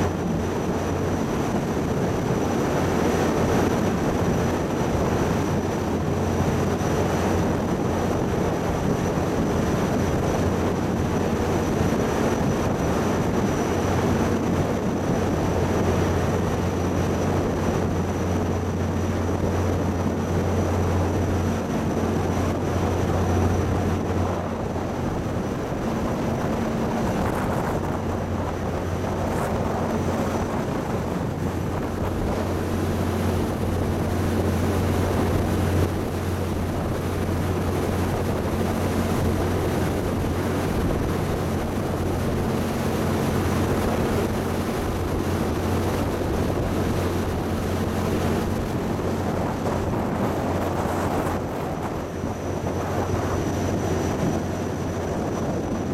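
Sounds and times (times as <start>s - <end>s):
rush of churning wake: 0.0s - 55.9s
ship engines droning: 0.0s - 55.9s
wind on microphone: 0.0s - 55.9s.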